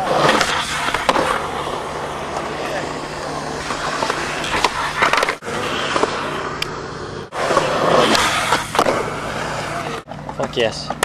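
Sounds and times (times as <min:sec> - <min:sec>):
skateboard popping and landing: 0:00.0 - 0:06.4, 0:07.3 - 0:11.0
skateboard wheels rolling on concrete: 0:00.0 - 0:11.0.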